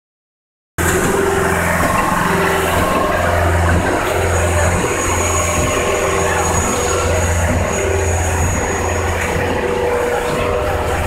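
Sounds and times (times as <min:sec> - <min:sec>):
engine running with deep hum: 0:00.8 - 0:11.0.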